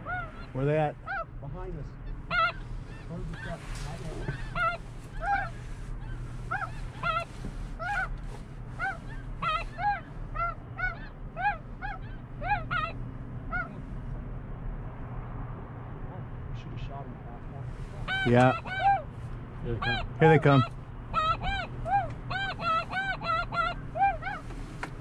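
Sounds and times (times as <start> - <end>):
geese honking: 0.0 - 13.8, 17.7 - 24.8.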